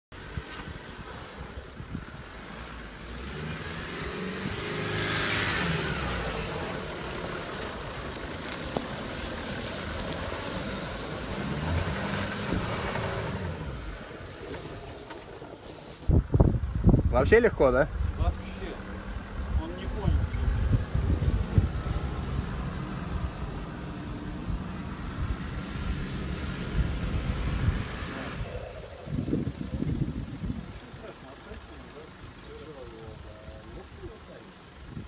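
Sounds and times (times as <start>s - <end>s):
suv engine revving: 0.2s - 35.0s.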